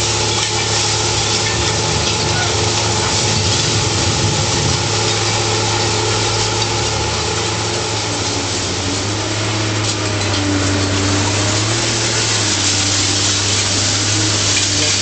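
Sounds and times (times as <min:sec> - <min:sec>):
dense rushing noise: 0:00.0 - 0:15.0
low machinery hum: 0:00.0 - 0:15.0.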